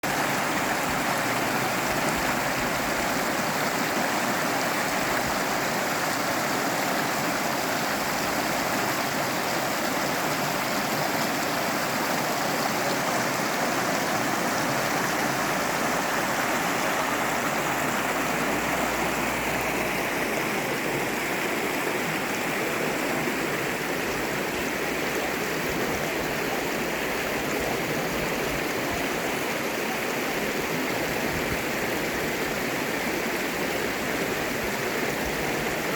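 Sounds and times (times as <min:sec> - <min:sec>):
river rushing over rocks: 0:00.0 - 0:35.9.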